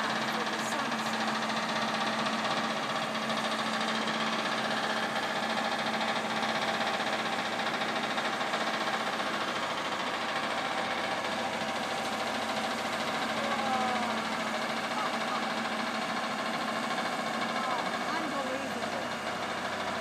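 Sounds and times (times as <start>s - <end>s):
crane engine idling: 0.0s - 20.0s.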